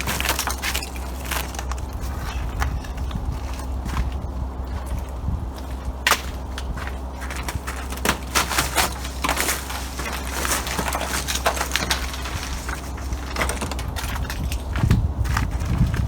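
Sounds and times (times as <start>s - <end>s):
ice and snow crunching: 0.0s - 16.0s
low hum: 0.0s - 16.0s.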